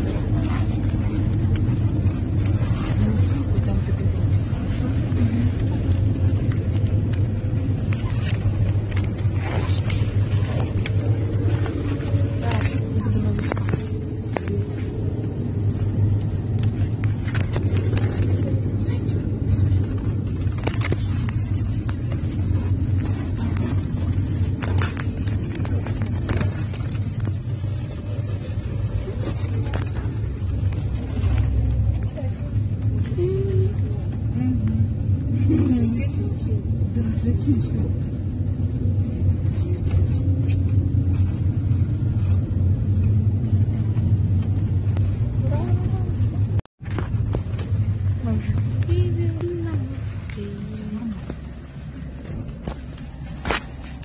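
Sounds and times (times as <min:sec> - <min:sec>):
bus engine and road rumble: 0:00.0 - 0:54.0
faint steady whine: 0:00.0 - 0:54.0.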